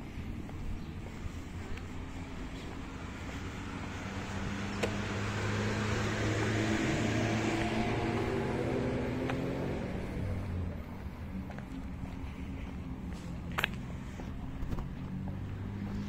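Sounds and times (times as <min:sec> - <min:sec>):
car passing: 0:00.1 - 0:16.0.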